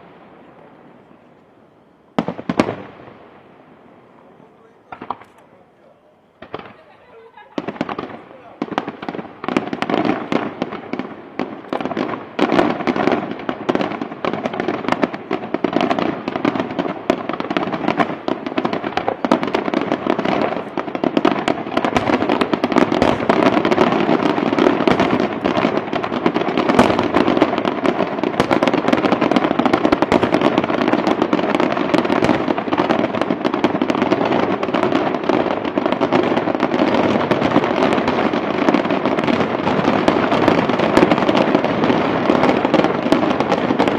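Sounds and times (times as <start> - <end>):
firecracker bangs: 2.1 - 3.3, 4.8 - 5.4, 6.4 - 43.9.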